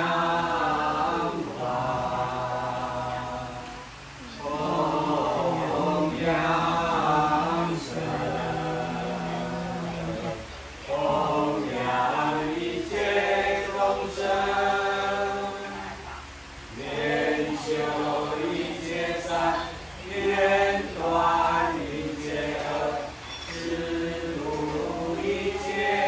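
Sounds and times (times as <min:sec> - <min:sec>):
choir singing chant-like lines: 0:00.0 - 0:26.0.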